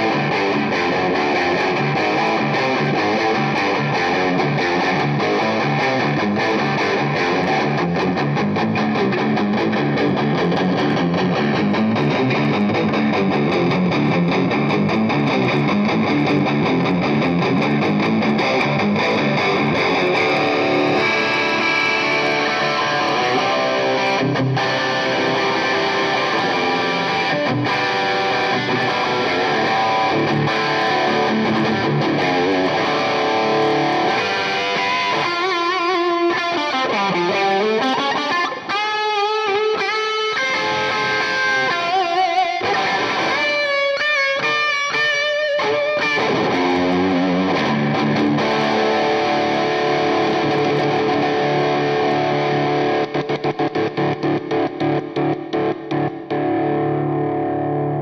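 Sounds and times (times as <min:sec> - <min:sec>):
guitar lead with pitch bends: 0:00.0 - 0:58.0
overdriven electric guitar riffs: 0:00.0 - 0:58.0.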